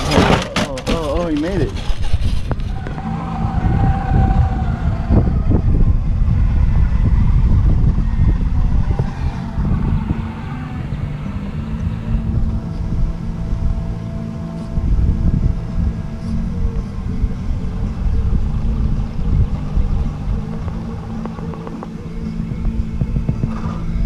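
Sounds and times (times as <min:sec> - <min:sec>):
wind buffeting microphone: 0:00.0 - 0:24.0
faint electric motor whine: 0:02.5 - 0:24.0.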